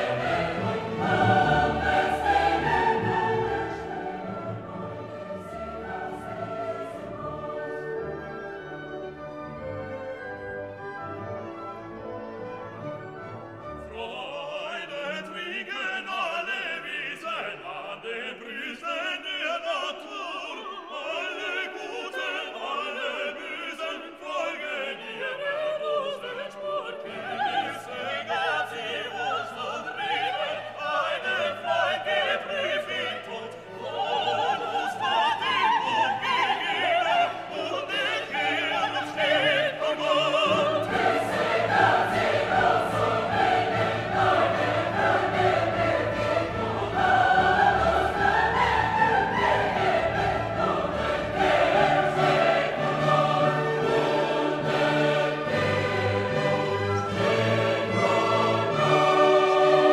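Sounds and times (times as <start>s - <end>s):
orchestral music with singing: 0.0s - 59.9s.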